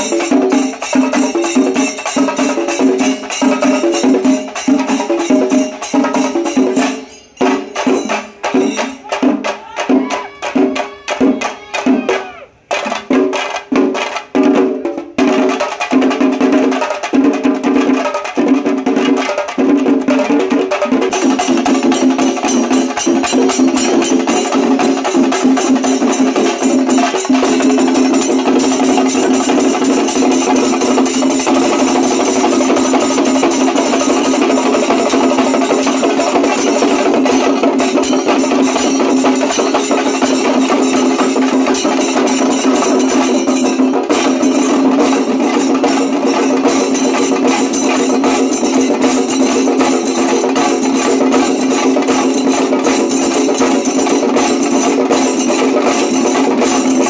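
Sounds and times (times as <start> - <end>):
percussion ensemble drums and cymbals: 0.0 - 57.0.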